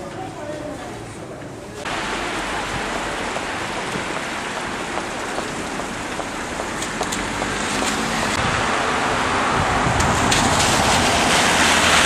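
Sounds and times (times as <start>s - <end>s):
tyres hissing on wet road: 1.8s - 12.0s.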